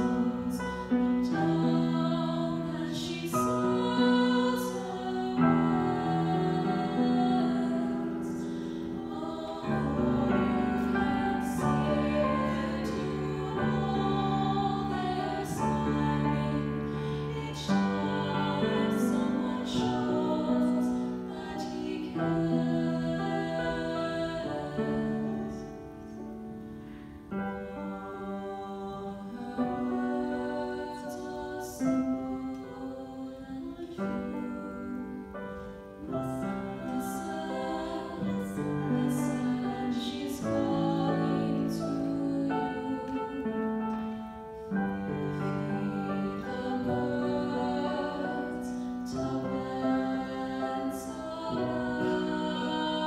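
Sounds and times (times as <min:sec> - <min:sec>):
girl and woman singing duet: 0:00.0 - 0:26.0, 0:27.6 - 0:53.0
piano accompaniment: 0:00.0 - 0:53.0.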